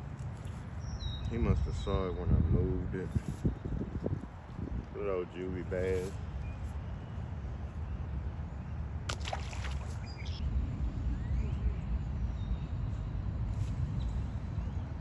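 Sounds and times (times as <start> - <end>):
low wind rumble on microphone: 0.0 - 15.0.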